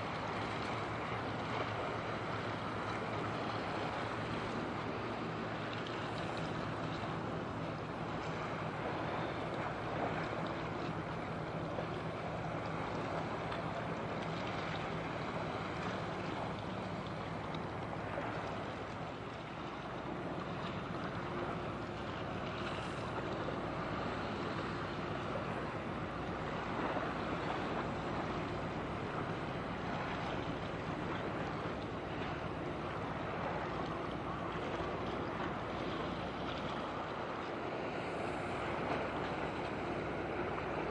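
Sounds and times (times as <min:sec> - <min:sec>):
ship engine drone: 0:00.0 - 0:40.9
water wash: 0:00.0 - 0:40.9
wind: 0:00.0 - 0:40.9.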